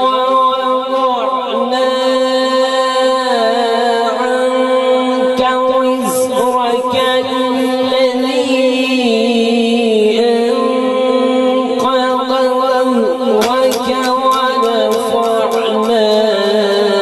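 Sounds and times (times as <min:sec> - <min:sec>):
man chanting melodic recitation: 0:00.0 - 0:17.0.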